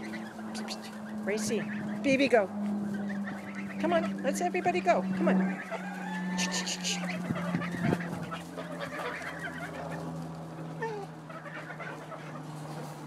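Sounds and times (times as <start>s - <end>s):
geese gabbling and honking: 0.0s - 13.0s
steady low hum: 0.0s - 13.0s.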